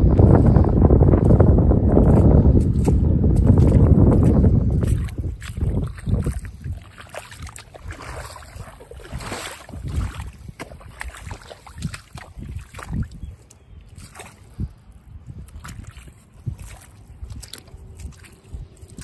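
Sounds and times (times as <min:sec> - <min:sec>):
wind buffeting microphone: 0:00.0 - 0:19.0
boots splashing through water and mud: 0:01.2 - 0:19.0.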